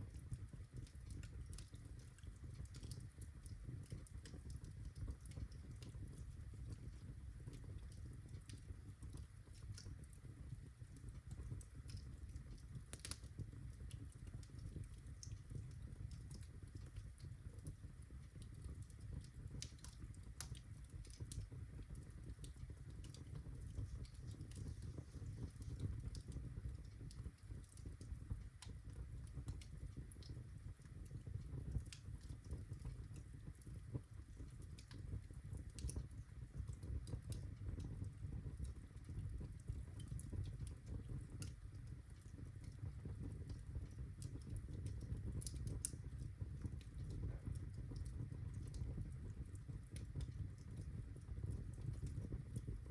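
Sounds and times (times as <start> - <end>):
fire crackling and popping: 0.0 - 52.9
low rumble of flames: 0.0 - 52.9.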